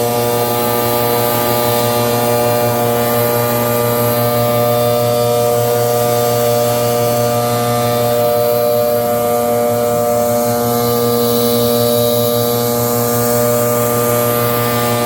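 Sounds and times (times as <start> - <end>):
leaf blower engine running: 0.0 - 15.0.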